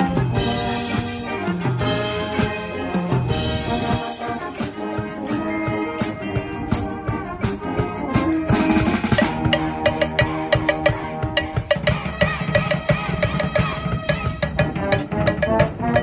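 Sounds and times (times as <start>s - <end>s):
brass band playing: 0.0s - 16.0s
drums and cymbals: 0.0s - 16.0s.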